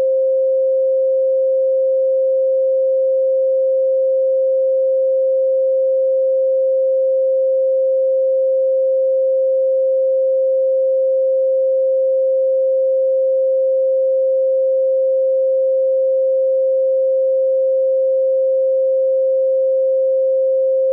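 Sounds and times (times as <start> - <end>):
steady sine tone: 0.0 - 20.9.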